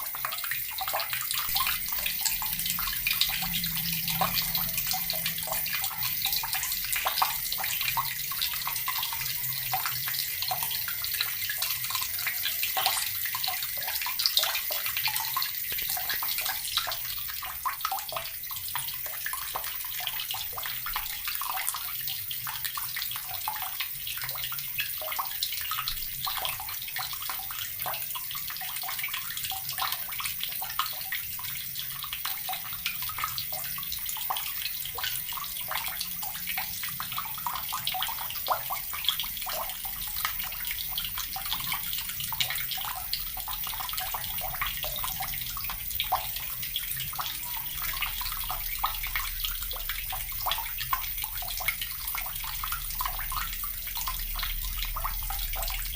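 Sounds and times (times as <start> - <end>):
water running from a tap: 0.0 - 55.9.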